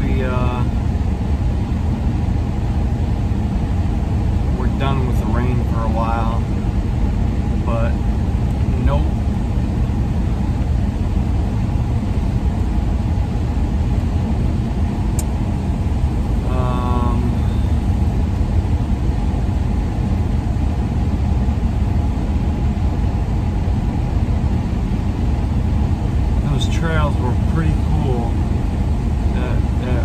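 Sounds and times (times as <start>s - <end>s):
van road and engine rumble: 0.0s - 30.0s.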